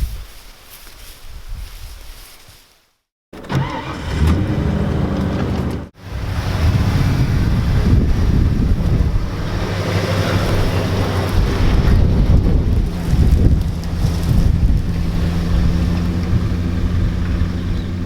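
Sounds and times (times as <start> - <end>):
pickup truck engine running: 3.5 - 18.0.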